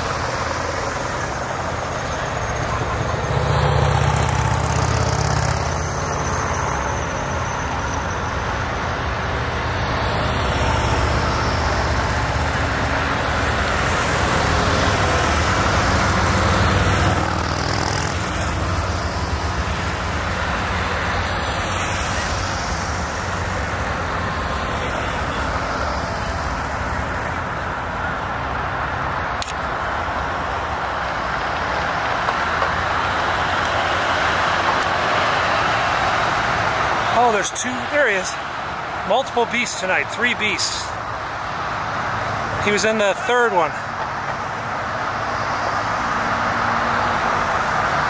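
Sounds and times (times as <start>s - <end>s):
vehicles driving past: 0.0s - 48.0s.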